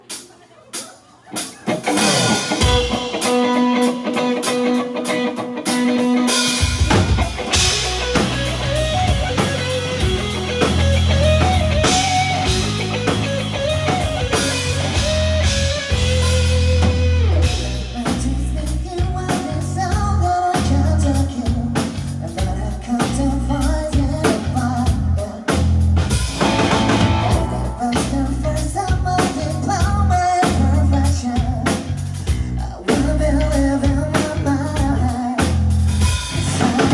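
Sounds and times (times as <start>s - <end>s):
live rock band playing: 1.3s - 36.9s.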